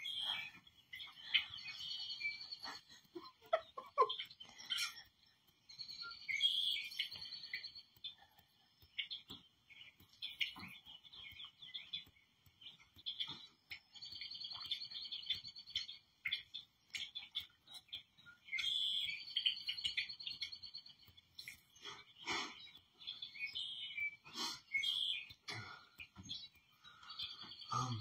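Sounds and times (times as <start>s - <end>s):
bird chirps and calls: 0.0s - 28.0s
bird trills: 0.0s - 28.0s.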